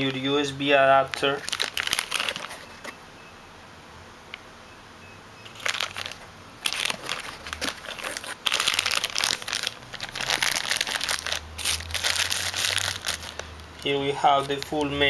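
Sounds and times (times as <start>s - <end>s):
plastic bag crinkling: 0.0s - 3.0s, 5.4s - 15.0s.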